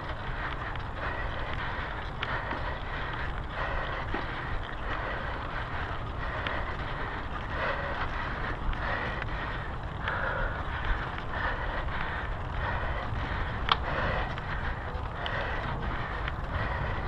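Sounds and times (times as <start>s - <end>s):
bike clicks and rattles: 0.0s - 17.0s
tyres rolling on dirt: 0.0s - 17.0s.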